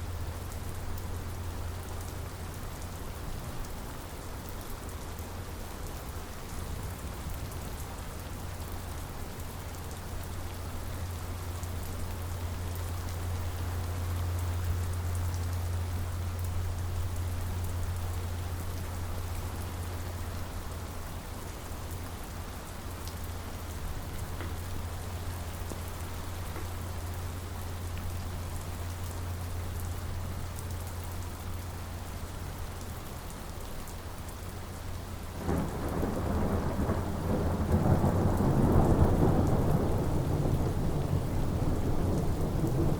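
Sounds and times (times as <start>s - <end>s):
constant low rumble: 0.0s - 42.9s
rain pattering on surfaces: 0.0s - 42.9s.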